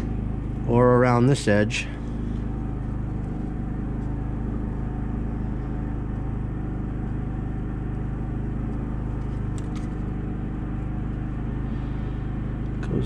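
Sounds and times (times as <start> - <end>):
steady low machine hum: 0.0 - 13.0.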